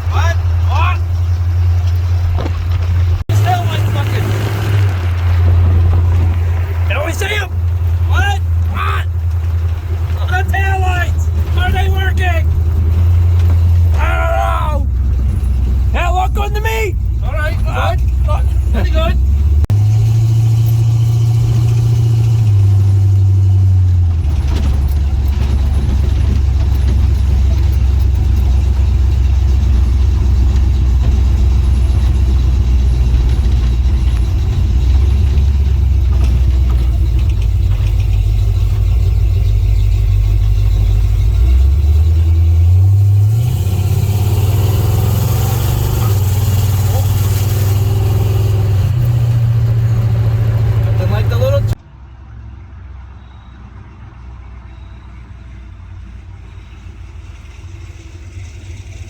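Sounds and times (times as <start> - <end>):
truck engine droning: 0.0 - 59.0.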